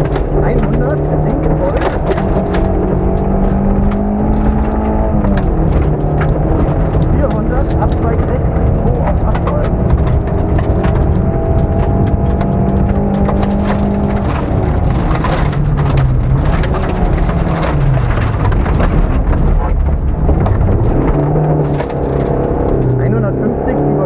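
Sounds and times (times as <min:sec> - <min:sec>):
car engine running hard: 0:00.0 - 0:24.0
gravel pinging against car underbody: 0:00.0 - 0:24.0.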